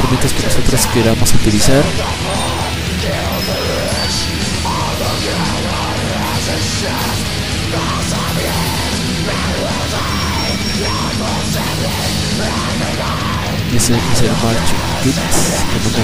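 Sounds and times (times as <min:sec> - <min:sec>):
loud heavy metal music: 0:00.0 - 0:16.0.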